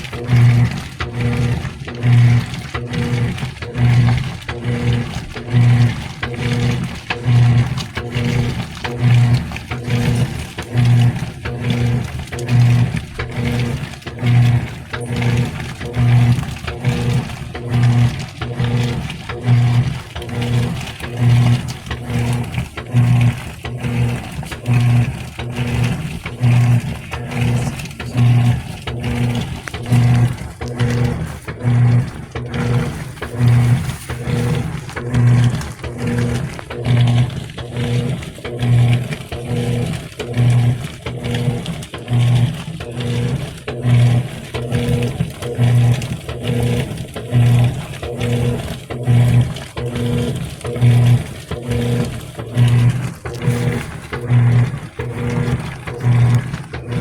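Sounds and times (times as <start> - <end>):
washer motor hum: 0.0 - 57.0
water sloshing: 0.0 - 57.0.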